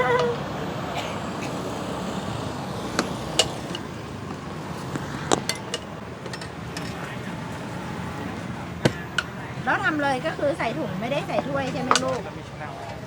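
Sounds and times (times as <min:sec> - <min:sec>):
busy food stall: 0:00.0 - 0:13.0
road traffic hum: 0:00.0 - 0:13.0.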